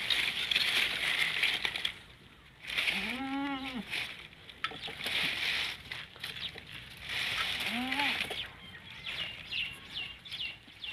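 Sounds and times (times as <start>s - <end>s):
leaves rustling: 0.0s - 10.9s.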